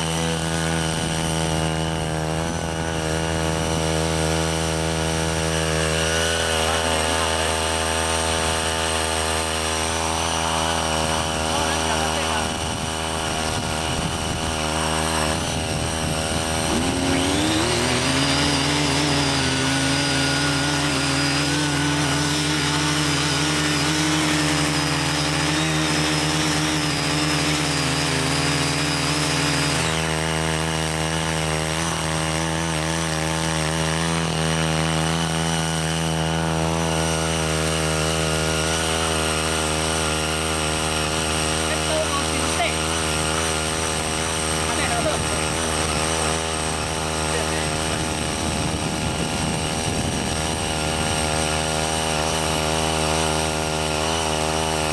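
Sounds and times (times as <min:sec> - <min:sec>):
cultivator engine under load: 0:00.0 - 0:54.9.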